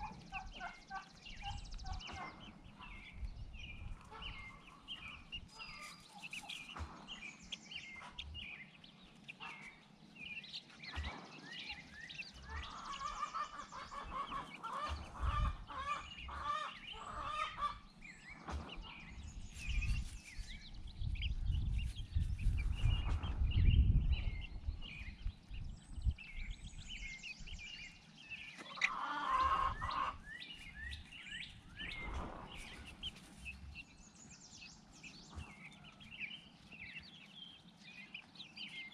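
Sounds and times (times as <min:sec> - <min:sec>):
poultry lower calls: 0:00.0 - 0:20.6, 0:27.5 - 0:38.9
poultry chirping: 0:00.0 - 0:38.9.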